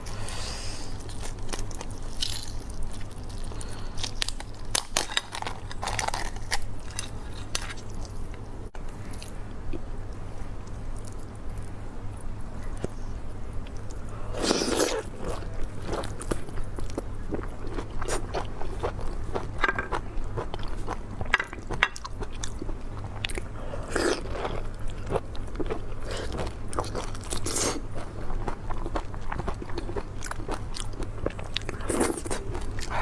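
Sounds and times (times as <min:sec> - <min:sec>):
steady low hum: 0:00.0 - 0:33.0
wet chewing and crunching: 0:00.9 - 0:08.4, 0:10.6 - 0:33.0.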